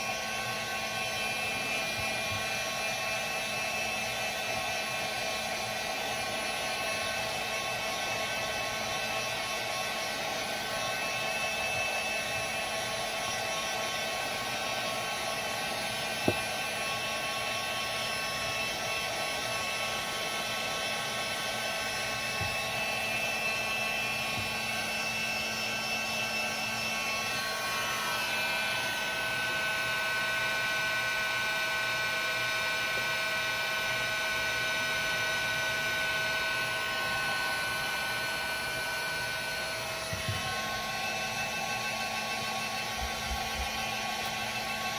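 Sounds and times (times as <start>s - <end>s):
heat gun blowing: 0.0s - 44.9s.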